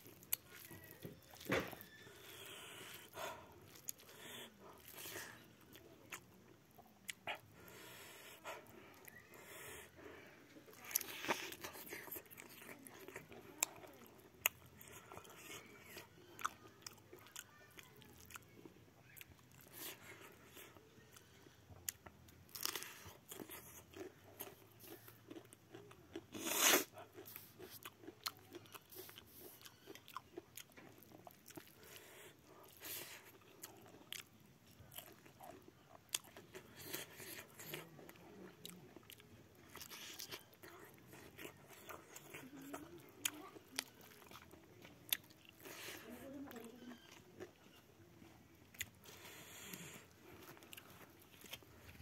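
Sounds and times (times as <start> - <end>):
chewing and crunching: 0.0 - 52.0.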